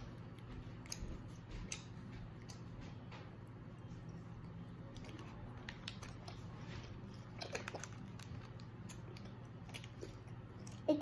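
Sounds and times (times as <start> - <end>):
child chewing candy: 0.0 - 11.0
low steady hum: 0.0 - 11.0.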